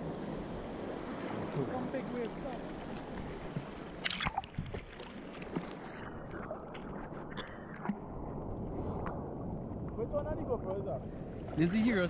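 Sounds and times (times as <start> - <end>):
sea water sloshing and splashing: 0.0 - 12.0.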